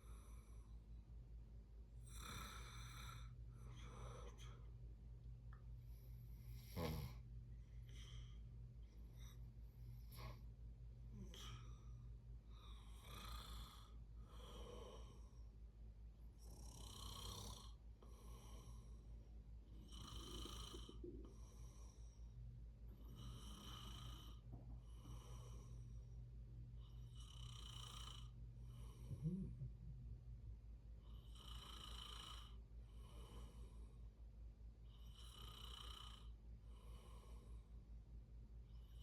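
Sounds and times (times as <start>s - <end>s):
steady low hum: 0.0s - 39.0s
soft snoring: 2.0s - 4.7s, 5.8s - 10.5s, 11.1s - 15.5s, 16.2s - 30.4s, 31.0s - 34.1s, 34.8s - 37.8s.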